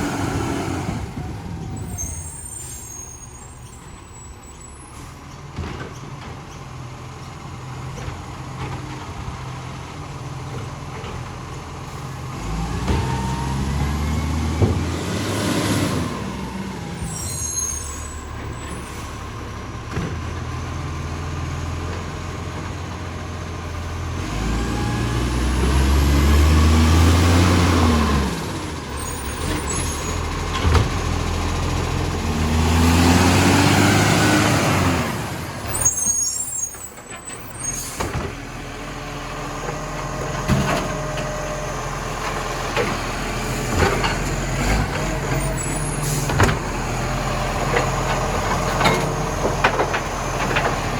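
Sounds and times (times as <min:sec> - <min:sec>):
diesel engine idling and revving: 0:00.0 - 0:50.9.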